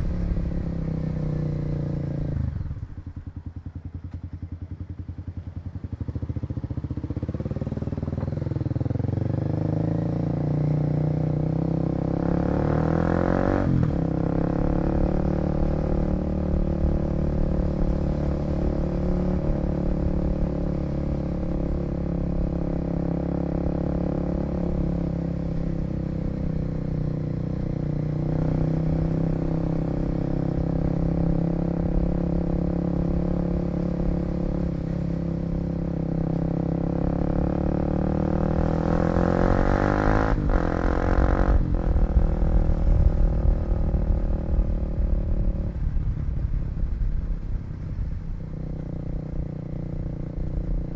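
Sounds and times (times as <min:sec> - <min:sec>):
motorcycle engine accelerating: 0:00.0 - 0:50.9.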